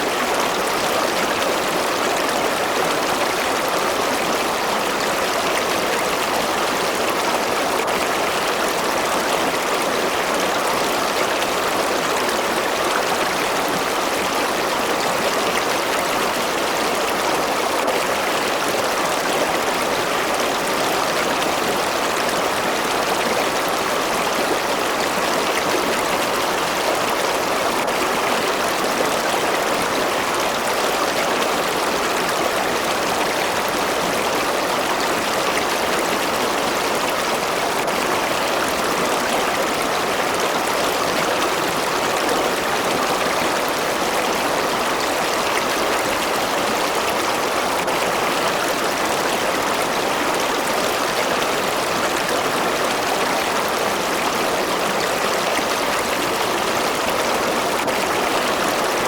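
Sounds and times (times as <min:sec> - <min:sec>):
stream water rushing and babbling: 0:00.0 - 0:59.0.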